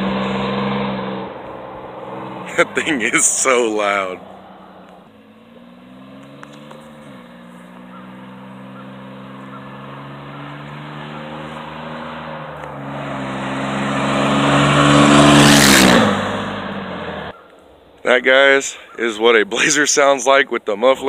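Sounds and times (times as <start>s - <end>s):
loud truck exhaust passing by: 0.0s - 17.4s.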